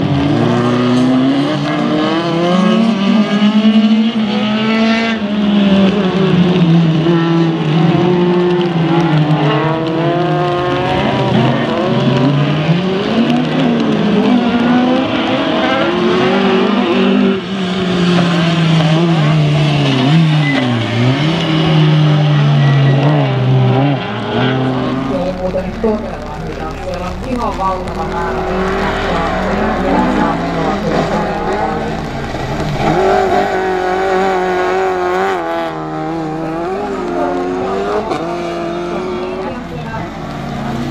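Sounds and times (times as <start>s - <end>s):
racing car engines revving: 0.0s - 40.9s.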